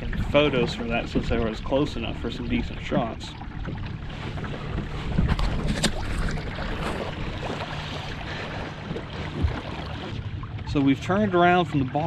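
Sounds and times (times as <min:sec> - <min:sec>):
wind buffeting microphone: 0:00.0 - 0:10.5
water noise from kayak: 0:00.0 - 0:12.0.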